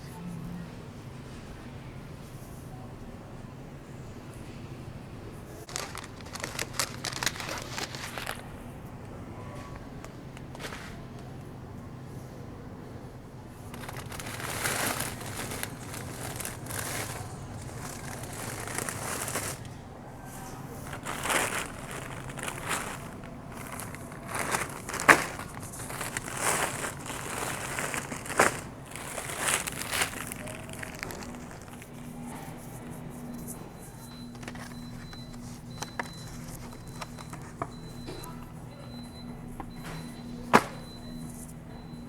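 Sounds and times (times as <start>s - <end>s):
steady low hum: 0.0s - 42.0s
plastic crinkling and rustling: 5.5s - 11.4s, 13.5s - 42.0s.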